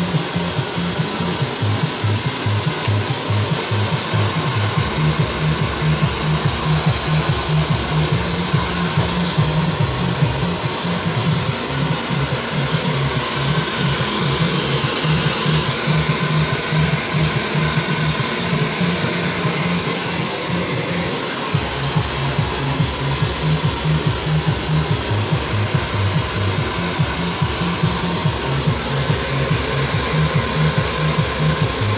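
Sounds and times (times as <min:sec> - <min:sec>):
hair dryer blowing: 0:00.0 - 0:31.9.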